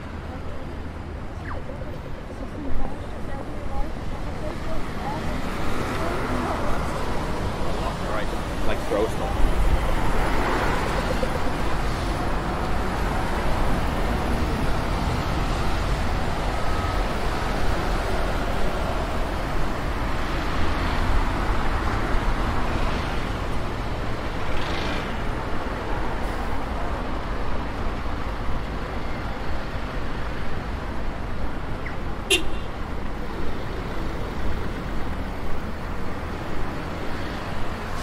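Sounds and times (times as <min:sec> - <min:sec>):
traffic on wet road: 0:00.0 - 0:38.0.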